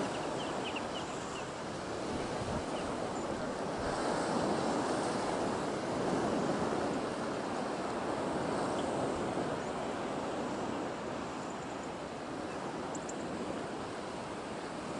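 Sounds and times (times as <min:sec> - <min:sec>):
sea surf rushing: 0:00.0 - 0:14.9
wind: 0:00.0 - 0:14.9.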